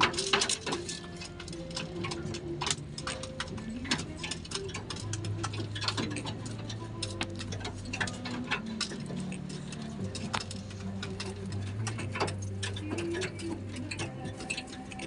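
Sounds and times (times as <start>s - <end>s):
birds clicking and tapping: 0.0s - 15.0s.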